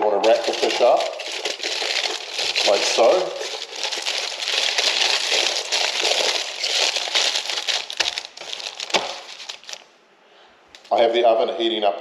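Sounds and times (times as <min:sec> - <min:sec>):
aluminium foil crinkling: 0:00.0 - 0:09.9, 0:10.8 - 0:11.0.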